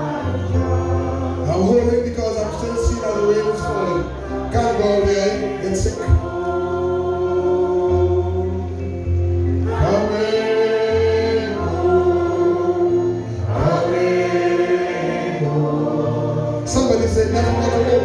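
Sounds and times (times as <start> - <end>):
choir singing gospel song: 0.0 - 18.0.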